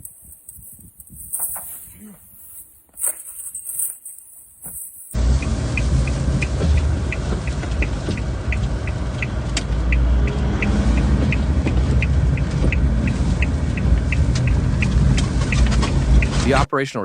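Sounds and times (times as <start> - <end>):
vehicle engine rumbling: 0.0 - 16.7.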